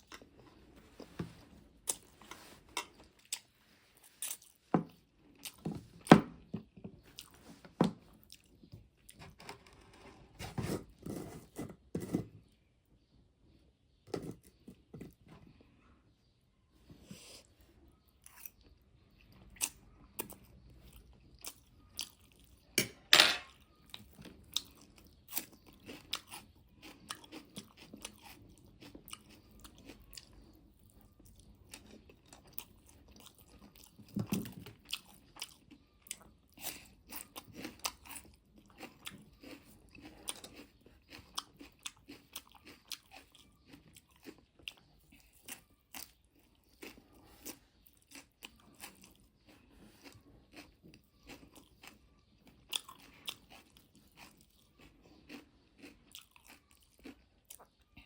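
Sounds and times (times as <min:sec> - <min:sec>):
crunchy chewing of food: 0:00.0 - 0:13.1, 0:16.8 - 0:58.0.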